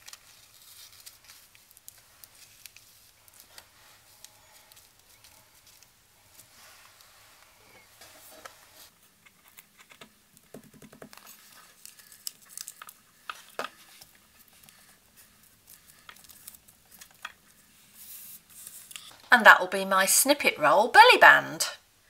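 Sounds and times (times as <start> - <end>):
paper and fabric rustling: 0.0 - 9.5, 11.1 - 19.3.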